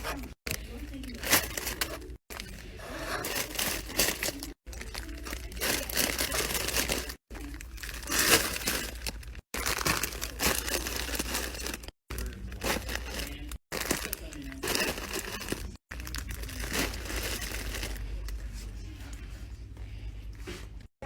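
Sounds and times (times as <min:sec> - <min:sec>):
packaging crinkling and tearing: 0:00.5 - 0:18.4.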